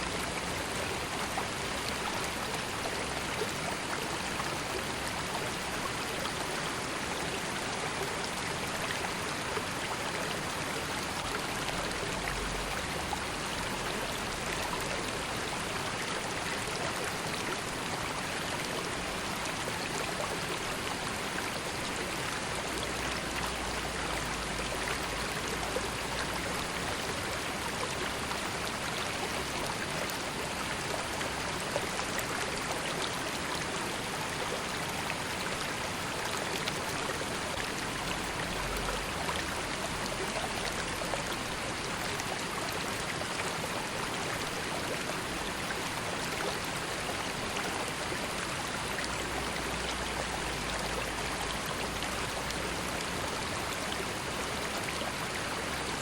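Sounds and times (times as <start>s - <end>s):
river flowing gently: 0.0s - 56.0s.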